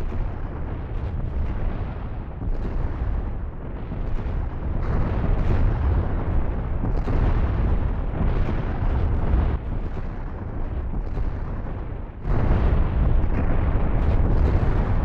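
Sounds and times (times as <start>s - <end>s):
deep rumble: 0.0s - 15.0s
heavy booming footsteps: 0.0s - 15.0s.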